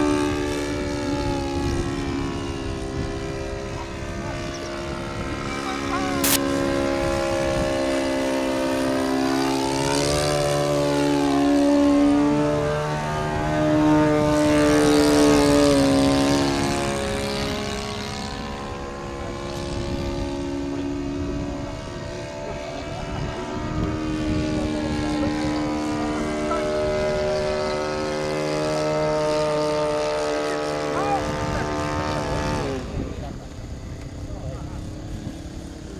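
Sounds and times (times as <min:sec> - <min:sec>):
model plane propeller drone: 0:00.0 - 0:35.9.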